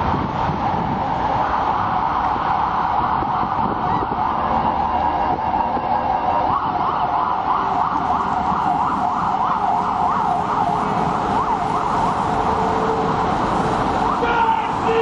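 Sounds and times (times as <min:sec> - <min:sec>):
street noise: 0:00.0 - 0:15.0
emergency siren yelping: 0:01.0 - 0:15.0.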